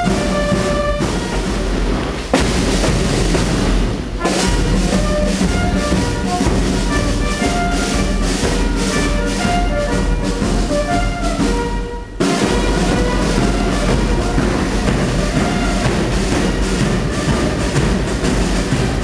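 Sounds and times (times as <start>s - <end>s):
bugles playing march tune: 0.0s - 19.0s
marching band drums: 0.0s - 19.0s.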